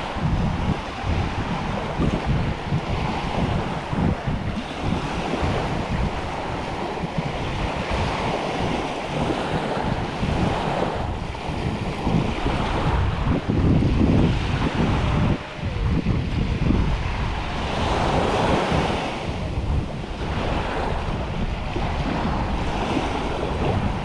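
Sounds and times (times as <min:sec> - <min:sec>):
waves washing onto a beach: 0:00.0 - 0:24.0
wind buffeting the microphone: 0:00.0 - 0:24.0.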